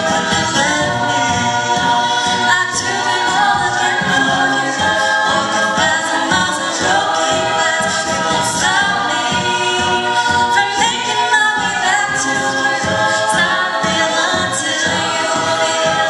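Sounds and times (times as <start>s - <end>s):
choir backing vocals: 0.0s - 16.0s
woman singing lead: 0.0s - 16.0s.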